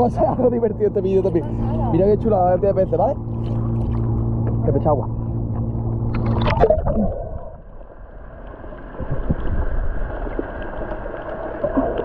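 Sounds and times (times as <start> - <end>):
boat engine humming: 0.0 - 12.0
muffled underwater gurgling: 0.0 - 12.0.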